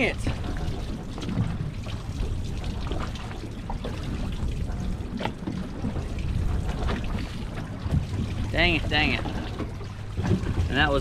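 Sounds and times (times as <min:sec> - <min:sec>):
steady low rumble: 0:00.0 - 0:11.0
water lapping against boat hull: 0:00.0 - 0:11.0.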